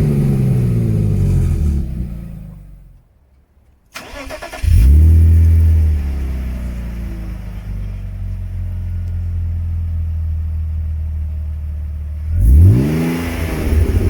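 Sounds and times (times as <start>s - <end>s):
car engine idling and revving: 0.0s - 3.1s, 4.0s - 14.0s.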